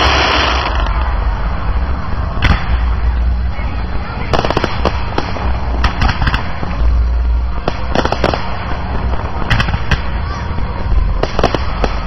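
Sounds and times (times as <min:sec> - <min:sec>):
fireworks bursting with bangs: 0:00.0 - 0:12.0
steady low rumble: 0:00.0 - 0:12.0.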